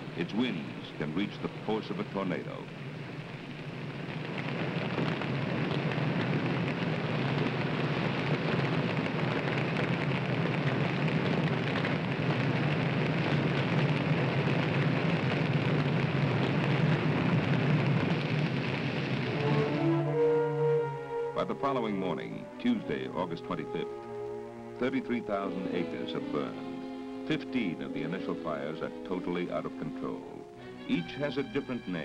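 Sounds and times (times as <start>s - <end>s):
wildfire rushing and crackling: 0.0s - 32.0s.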